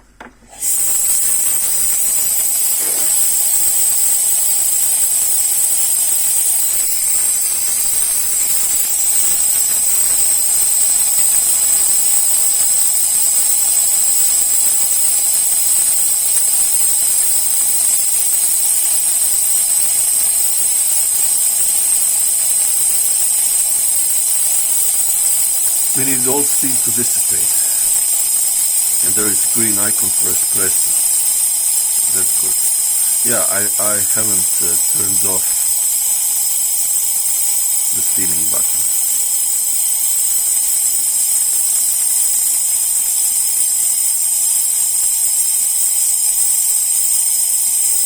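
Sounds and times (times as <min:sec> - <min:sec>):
espresso machine steam hiss: 0:00.4 - 0:48.0.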